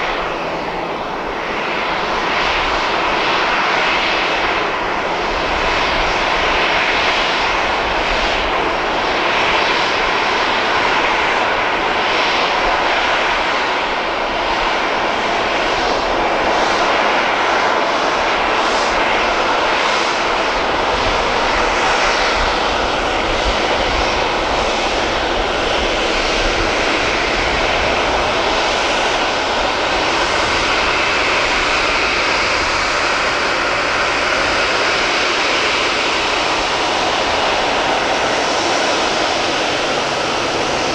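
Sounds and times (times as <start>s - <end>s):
jet engines taxiing: 0.0s - 40.9s.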